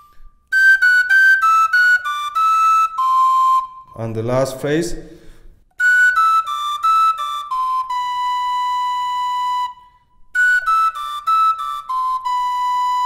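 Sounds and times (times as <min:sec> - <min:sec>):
tin whistle playing: 0:00.0 - 0:03.9, 0:05.7 - 0:13.0.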